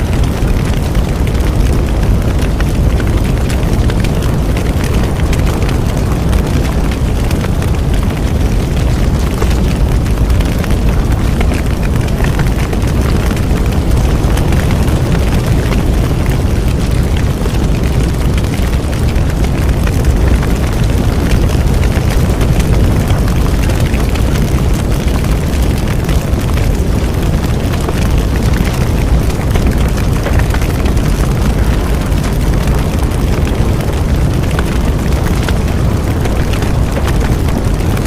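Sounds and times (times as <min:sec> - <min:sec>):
bonfire crackling and popping: 0:00.0 - 0:38.0.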